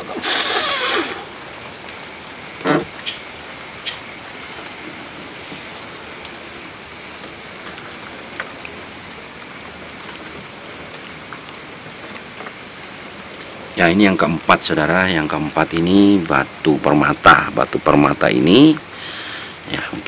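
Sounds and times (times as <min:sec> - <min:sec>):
night insects chirring: 0:00.0 - 0:20.0.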